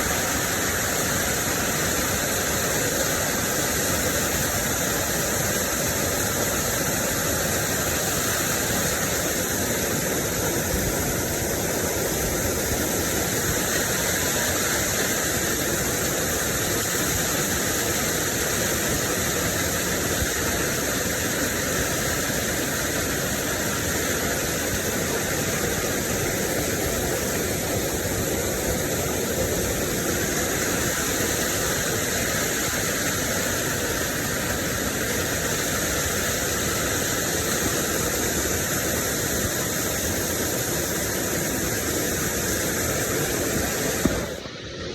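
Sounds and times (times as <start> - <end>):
rushing water: 0.0 - 44.9.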